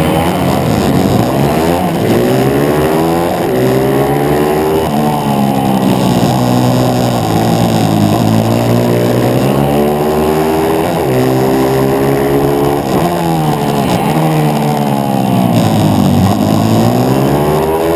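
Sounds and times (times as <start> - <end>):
motorbike engine revving: 0.0 - 17.9.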